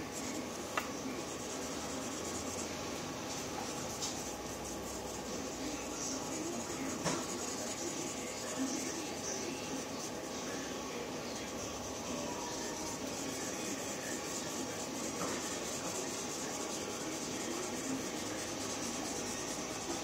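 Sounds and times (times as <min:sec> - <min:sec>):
marker rubbing on paper: 0:00.0 - 0:20.0
steady background hiss: 0:00.0 - 0:20.0.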